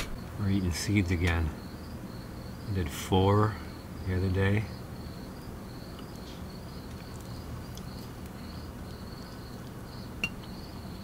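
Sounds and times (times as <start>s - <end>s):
crickets chirping: 0.0s - 11.0s
faint low hum: 0.0s - 11.0s.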